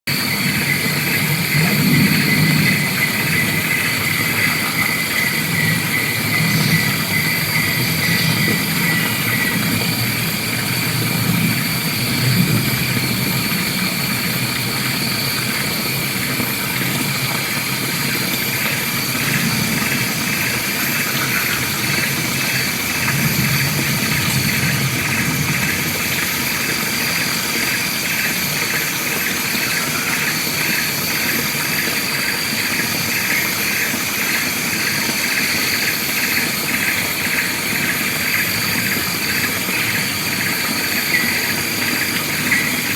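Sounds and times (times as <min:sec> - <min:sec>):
high insect drone: 0:00.1 - 0:42.9.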